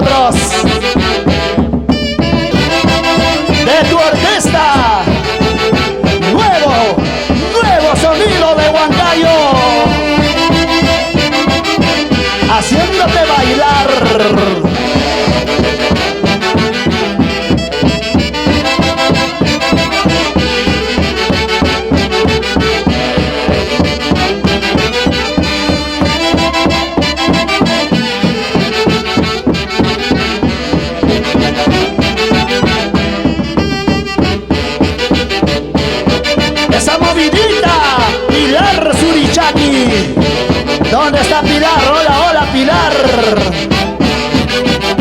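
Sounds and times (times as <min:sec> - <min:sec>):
dance orchestra with brass: 0:00.0 - 0:45.0
driving beat: 0:00.0 - 0:45.0.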